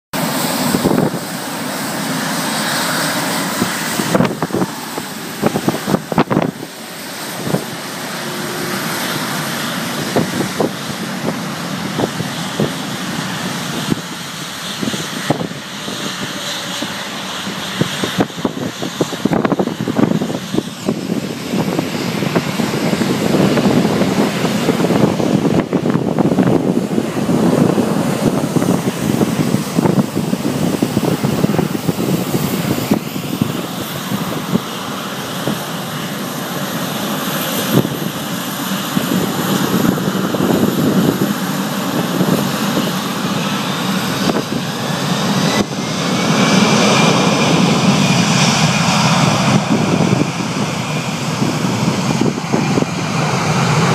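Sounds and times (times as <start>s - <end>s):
jet engines running: 0.1s - 53.9s.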